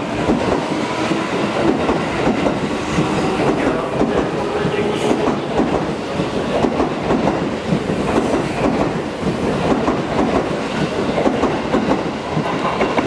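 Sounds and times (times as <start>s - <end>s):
train wheels clattering over rail joints: 0.2s - 13.0s.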